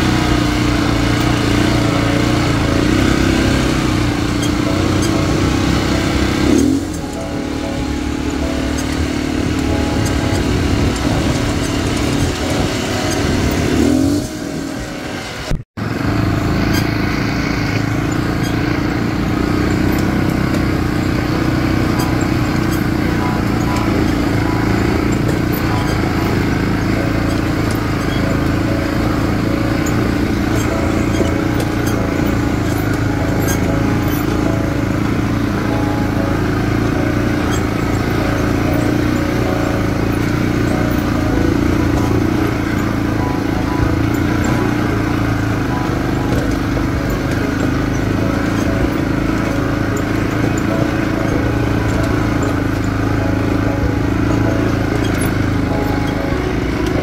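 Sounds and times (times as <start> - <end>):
buggy engine droning: 0.0 - 57.0.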